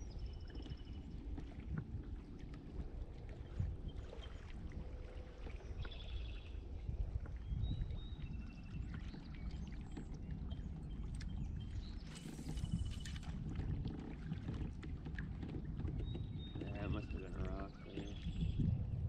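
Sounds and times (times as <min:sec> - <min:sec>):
water lapping against kayak hull: 0:00.0 - 0:19.0
wind rumble on microphone: 0:00.0 - 0:19.0.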